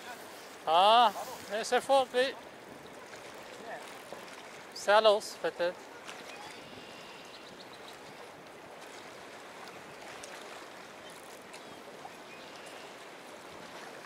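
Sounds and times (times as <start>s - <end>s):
river water rushing and lapping: 0.0s - 14.0s.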